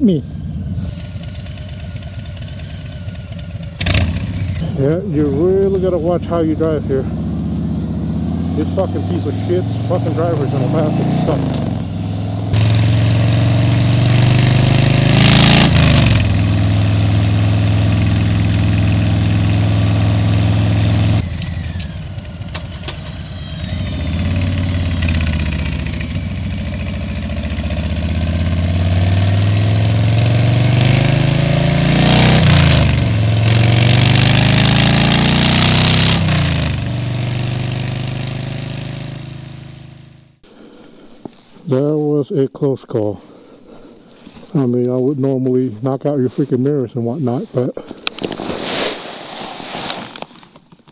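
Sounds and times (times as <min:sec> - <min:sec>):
motorcycle engine: 0:00.0 - 0:41.4.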